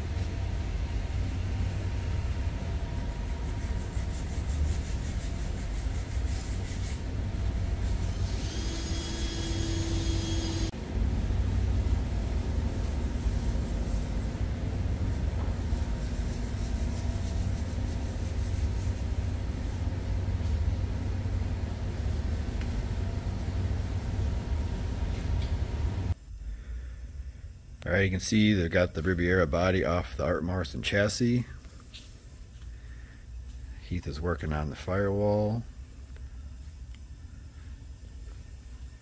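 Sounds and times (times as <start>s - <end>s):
low workshop rumble: 0.0s - 39.0s.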